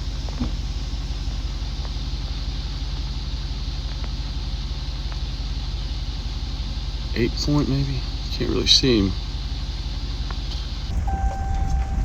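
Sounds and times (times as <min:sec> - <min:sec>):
truck engine hum from inside: 0:00.0 - 0:12.0.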